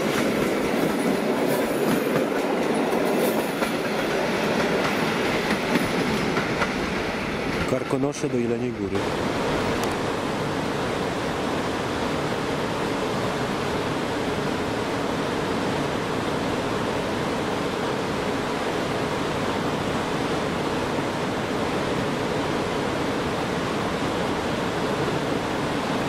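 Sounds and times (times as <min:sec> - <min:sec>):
approaching train rushing: 0:00.0 - 0:26.0
faint train hum: 0:00.0 - 0:26.0.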